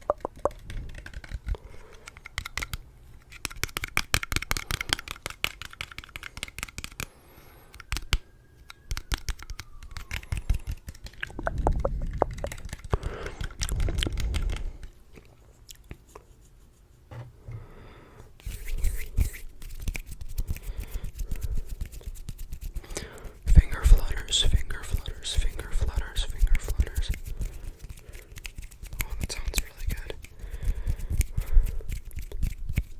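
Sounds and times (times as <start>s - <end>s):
fingers scratching: 0.0s - 7.1s, 8.9s - 14.7s, 18.4s - 22.9s, 23.5s - 32.9s.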